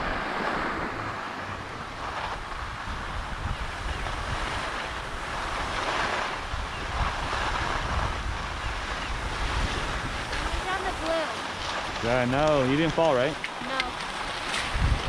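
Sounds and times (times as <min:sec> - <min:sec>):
skis sliding over snow: 0:00.0 - 0:15.0
wind buffeting microphone: 0:00.0 - 0:15.0.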